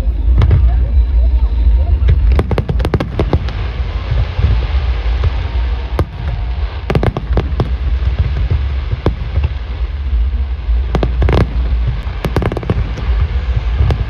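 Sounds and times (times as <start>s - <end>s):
fireworks bangs: 0.0s - 14.0s
hiss and low rumble: 0.0s - 14.0s.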